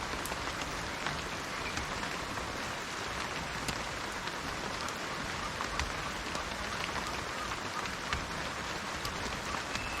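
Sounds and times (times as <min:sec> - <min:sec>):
raindrops clicking: 0:00.0 - 0:10.0
steady rain falling: 0:00.0 - 0:10.0.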